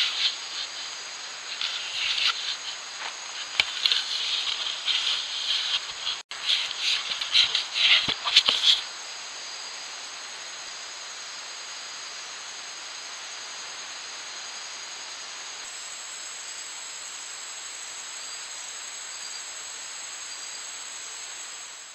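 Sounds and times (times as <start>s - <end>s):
high insect drone: 0.0s - 21.9s
steady hiss: 0.0s - 21.9s.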